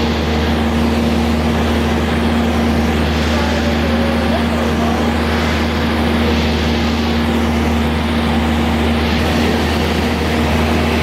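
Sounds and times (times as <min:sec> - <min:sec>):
propeller airplane engine drone: 0:00.0 - 0:11.0.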